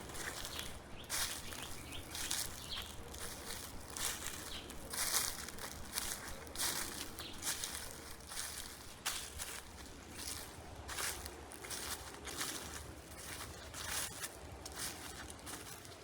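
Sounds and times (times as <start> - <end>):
footsteps crunching dry leaves: 0.0 - 16.0.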